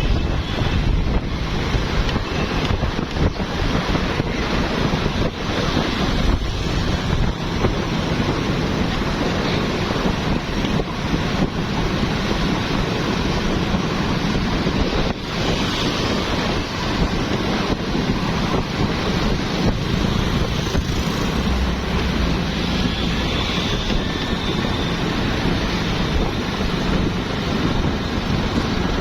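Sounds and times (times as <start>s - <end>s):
busy street traffic: 0.0s - 29.0s
motorbikes: 0.0s - 29.0s
wind rumbling on microphone: 0.0s - 29.0s.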